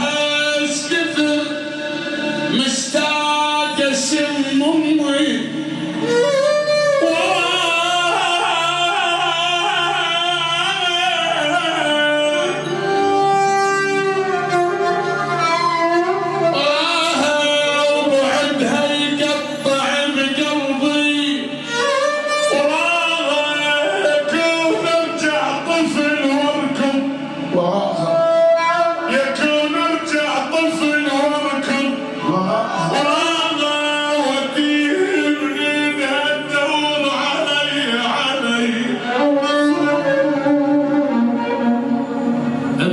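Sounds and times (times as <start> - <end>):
man singing long held notes: 0.0 - 14.6, 16.5 - 41.4
instrumental accompaniment: 0.0 - 42.9.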